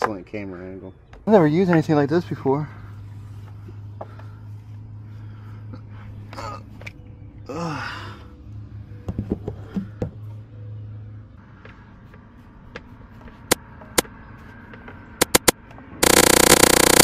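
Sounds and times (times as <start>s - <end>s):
steady low hum: 2.2s - 14.4s, 15.1s - 17.0s.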